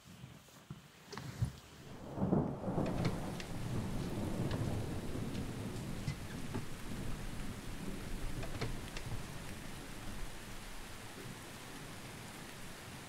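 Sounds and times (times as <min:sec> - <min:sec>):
steady rain: 0:00.0 - 0:13.0
thunder rumbling: 0:01.8 - 0:13.0.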